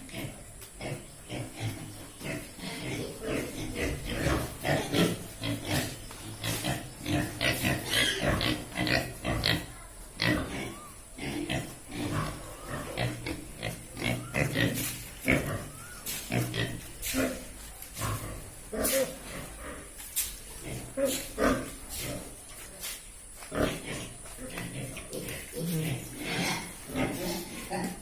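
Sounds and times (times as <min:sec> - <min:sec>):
pigs grunting: 0:00.0 - 0:22.6, 0:23.4 - 0:28.0.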